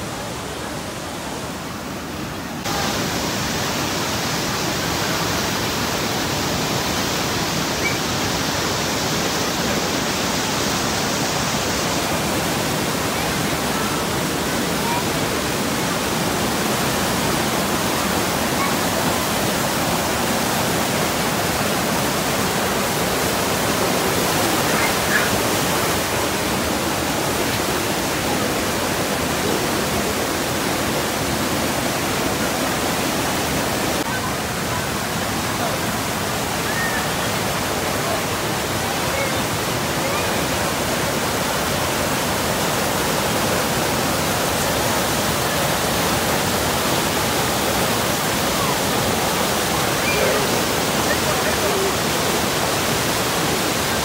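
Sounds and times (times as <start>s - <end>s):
river rapids rushing over rocks: 0.0s - 54.0s.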